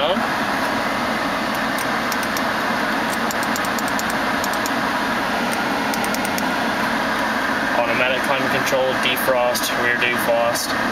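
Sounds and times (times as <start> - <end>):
air rushing from vents: 0.1 - 10.9.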